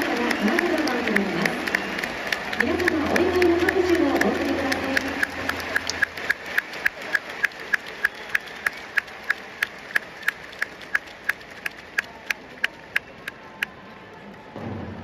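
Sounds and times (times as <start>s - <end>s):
rhythmic clapping: 0.0s - 13.7s
stadium crowd murmur: 0.0s - 15.0s.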